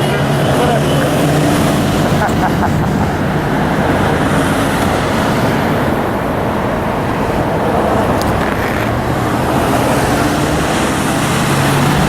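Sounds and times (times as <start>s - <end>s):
dense freeway traffic: 0.0s - 12.0s.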